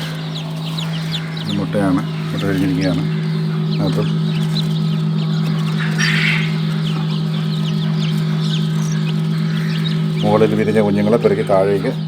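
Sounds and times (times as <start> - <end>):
chicks peeping: 0.0 - 12.0
steady low hum: 0.0 - 12.0.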